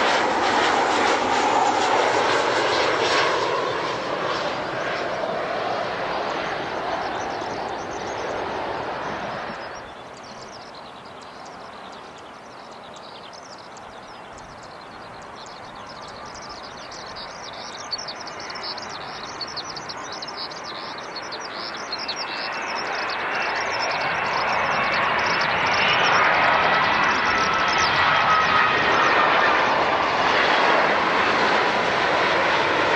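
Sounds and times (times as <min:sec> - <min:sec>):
jet airliner noise: 0:00.0 - 0:32.9
small birds chirping: 0:02.8 - 0:29.5.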